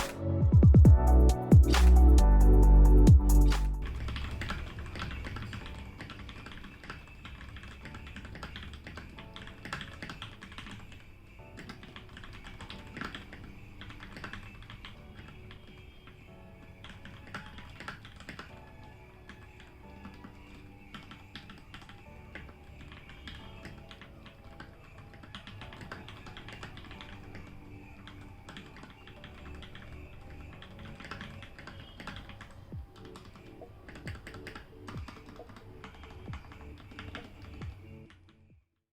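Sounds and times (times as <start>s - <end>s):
background music: 0.0s - 38.7s
mechanical keyboard typing: 1.4s - 16.0s, 16.8s - 38.3s.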